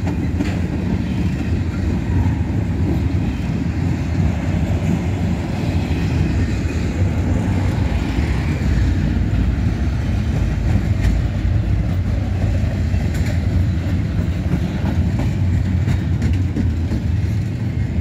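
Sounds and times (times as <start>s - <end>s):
sharp rail clicks: 0.0s - 18.0s
train wheels rumbling on rail: 0.0s - 18.0s.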